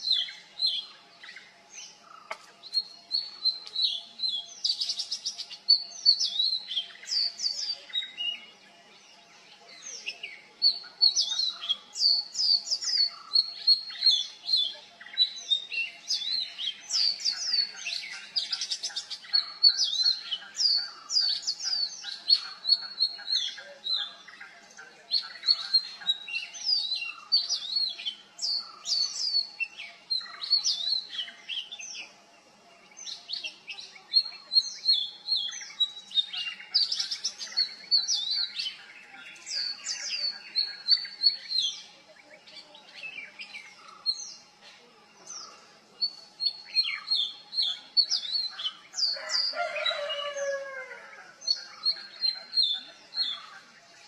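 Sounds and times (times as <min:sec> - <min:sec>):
bird singing whistled notes: 0:00.0 - 0:44.5, 0:45.2 - 0:54.0.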